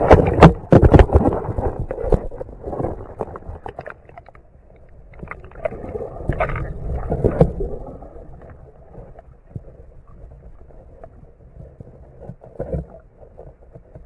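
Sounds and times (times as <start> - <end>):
knocks and clicks underwater: 0.0 - 14.0
water splashing and gurgling: 0.0 - 14.0.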